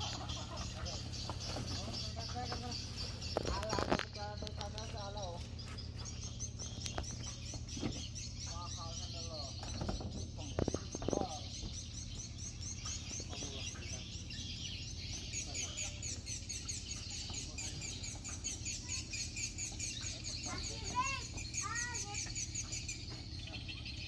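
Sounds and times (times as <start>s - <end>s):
birds chirping: 0.0s - 24.0s
loud arching bird calls: 0.0s - 24.0s
low steady hum: 0.0s - 24.0s.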